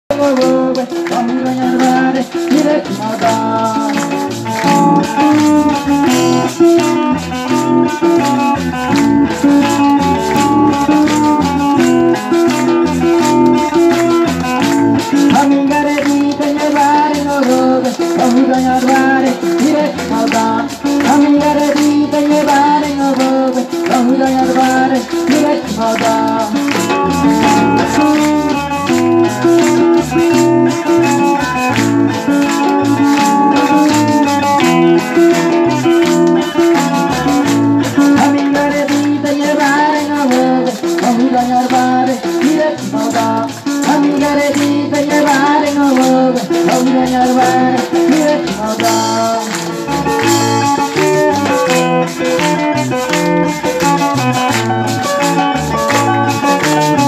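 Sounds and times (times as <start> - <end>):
live band playing amplified music: 0.0 - 57.0
rattling percussion beat: 0.1 - 57.0.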